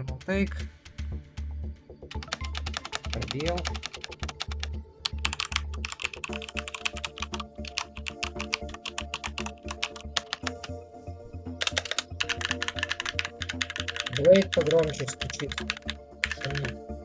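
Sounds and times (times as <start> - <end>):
fast typing on mechanical keyboard: 2.1 - 10.7, 11.6 - 16.8.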